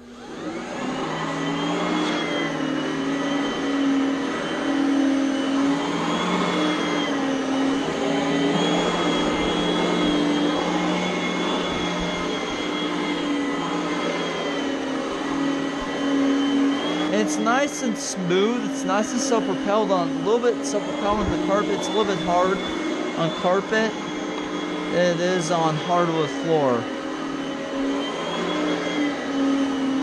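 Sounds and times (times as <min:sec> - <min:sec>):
vacuum cleaner whining: 0:00.0 - 0:30.0.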